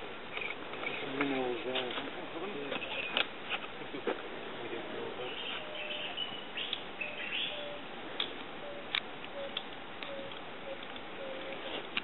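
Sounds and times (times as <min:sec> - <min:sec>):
birds chirping: 0:00.2 - 0:03.3, 0:04.6 - 0:11.9.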